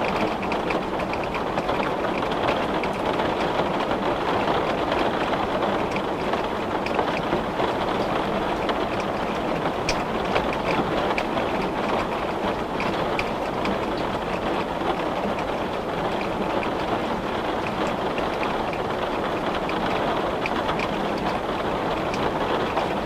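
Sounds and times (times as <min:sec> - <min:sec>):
heavy rain on a glass window: 0:00.0 - 0:23.0.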